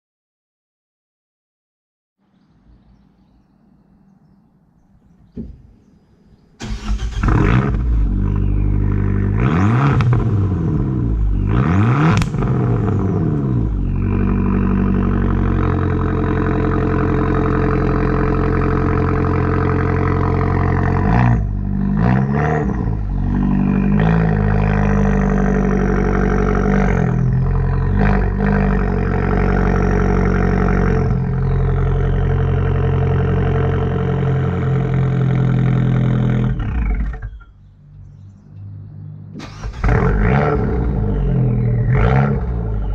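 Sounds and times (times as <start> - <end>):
car engine starting and revving: 5.2 - 42.9.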